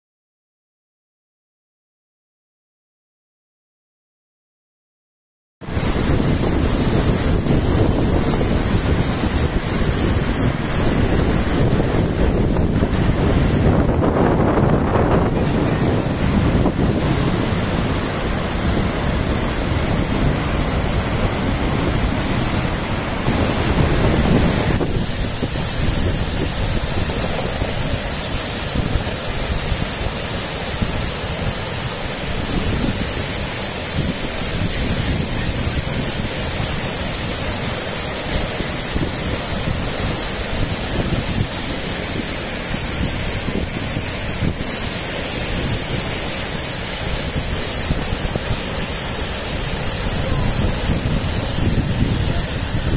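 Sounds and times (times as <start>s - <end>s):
water rushing into surf: 5.6s - 52.9s
wind rumbling on microphone: 5.6s - 52.9s.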